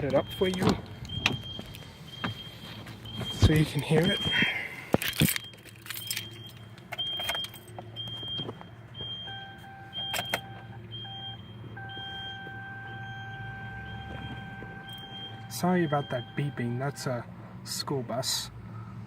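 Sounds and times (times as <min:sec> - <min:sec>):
lower steady beep tone: 0:00.1 - 0:17.1.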